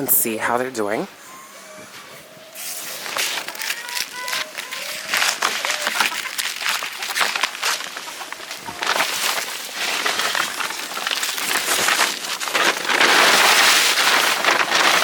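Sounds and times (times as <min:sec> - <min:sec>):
plastic tarp rustling: 0:01.9 - 0:15.0.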